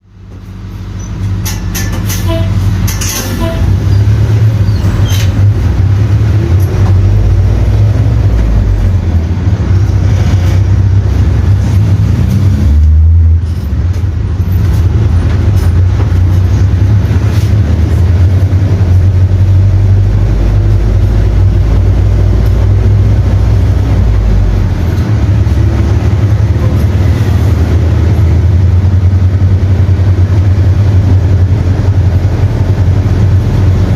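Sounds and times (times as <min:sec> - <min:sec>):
diesel bus engine running: 0:00.0 - 0:33.9.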